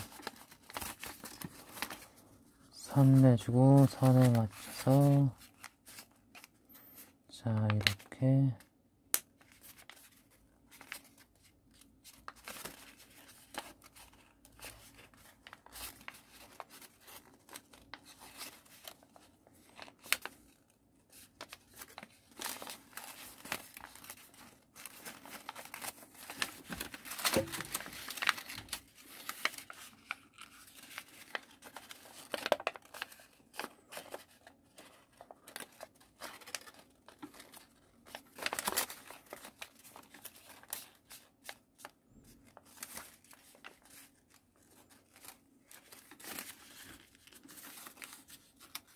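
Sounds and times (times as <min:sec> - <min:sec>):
paper folding and crinkling: 0:00.0 - 0:48.9.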